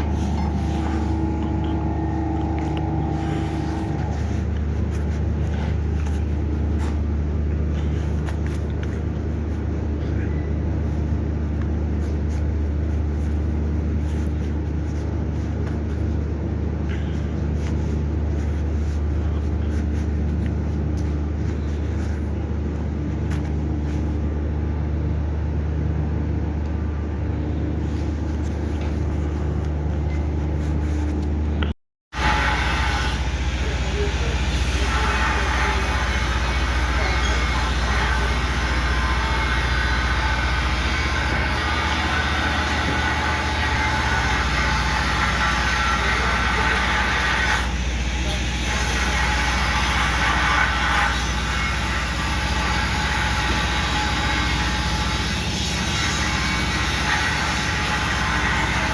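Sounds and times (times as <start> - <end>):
steady engine drone: 0.0 - 58.9.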